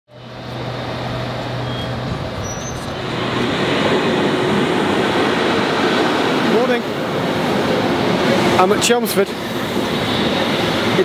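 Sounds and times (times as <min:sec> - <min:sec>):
train rumbling along track: 0:00.1 - 0:11.0.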